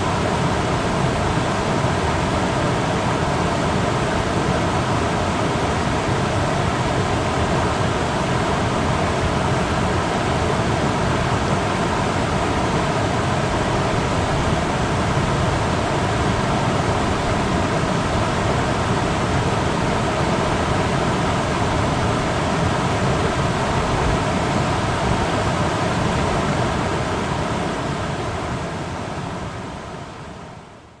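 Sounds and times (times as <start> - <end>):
rain-swollen creek rushing: 0.0 - 30.5.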